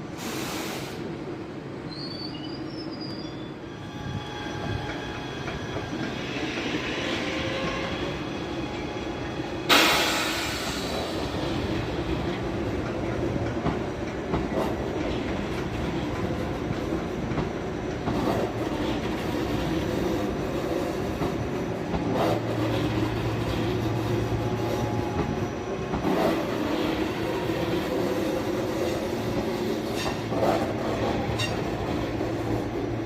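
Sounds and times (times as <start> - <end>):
train rolling: 0.0 - 33.0.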